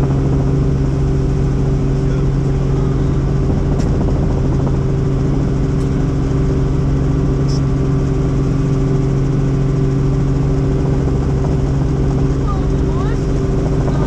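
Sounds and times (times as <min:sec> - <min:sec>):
helicopter rotor drone: 0:00.0 - 0:14.0.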